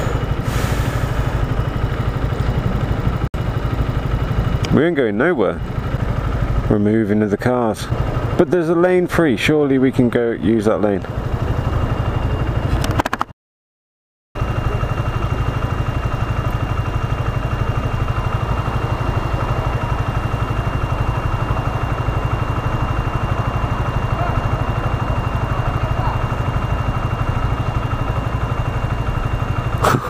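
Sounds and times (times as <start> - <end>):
motorcycle engine idling: 0.0 - 13.2, 14.4 - 30.0.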